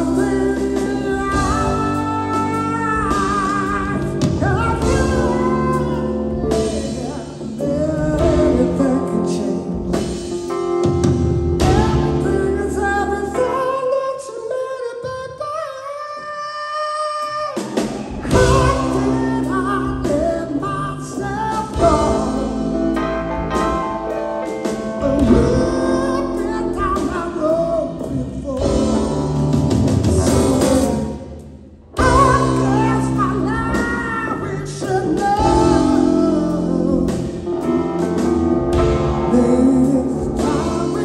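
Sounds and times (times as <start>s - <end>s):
lead vocal singing: 0.0s - 10.7s, 11.5s - 41.0s
live rock band: 0.0s - 14.6s, 16.6s - 41.0s.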